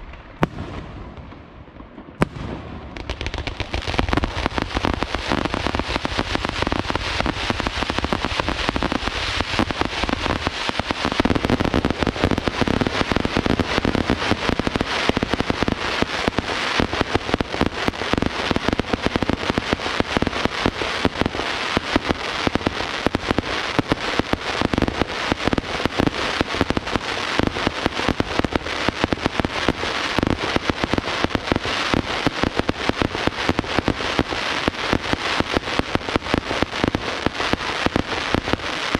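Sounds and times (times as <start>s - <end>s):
fireworks crackling pops: 0.0s - 38.9s
low rumbling firework bursts: 0.0s - 38.9s.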